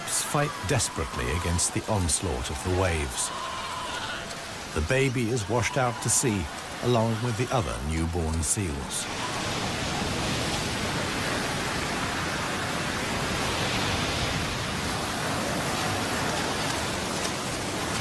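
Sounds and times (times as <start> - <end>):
surf breaking on shore: 0.0 - 18.0.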